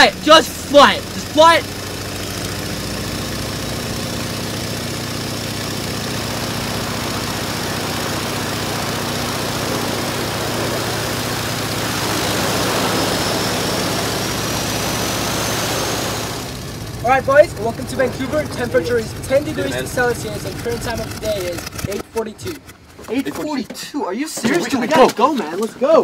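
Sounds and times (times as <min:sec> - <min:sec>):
plane engine droning in cabin: 0:00.0 - 0:22.9.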